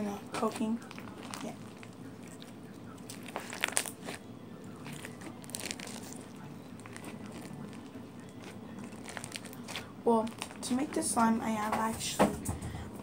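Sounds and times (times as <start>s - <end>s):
foam slime crackling: 0.0s - 11.4s.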